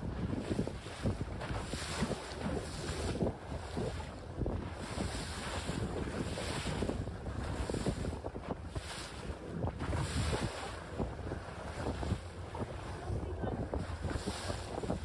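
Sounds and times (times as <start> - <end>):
water splashing against boat hull: 0.0 - 15.0
wind buffeting microphone: 0.0 - 15.0.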